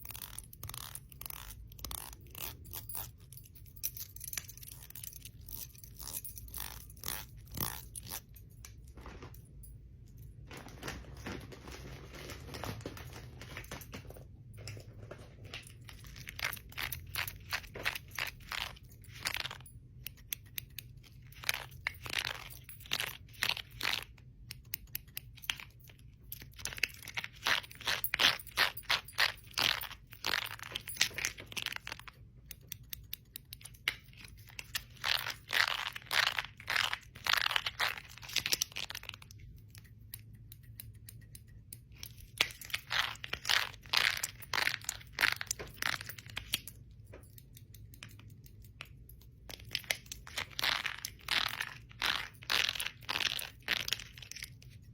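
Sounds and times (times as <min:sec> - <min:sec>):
metal bangles clinking: 0:00.0 - 0:10.4, 0:13.6 - 0:54.9.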